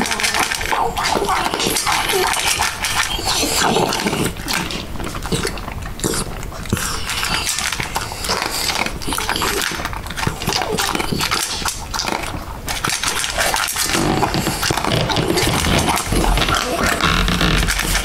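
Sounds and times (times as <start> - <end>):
dog chewing and crunching food: 0.0 - 18.0.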